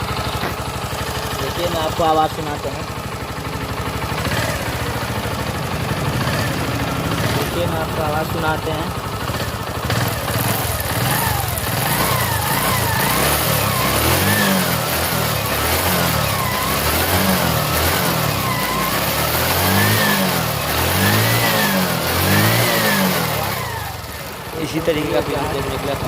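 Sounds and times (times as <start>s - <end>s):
moped engine revving: 0.0s - 26.0s.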